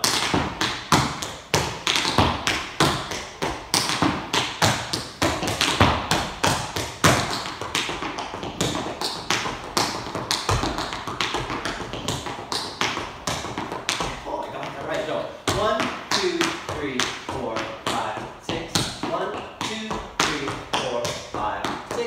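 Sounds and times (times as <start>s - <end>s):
tap shoes on wooden floor: 0.0s - 22.0s.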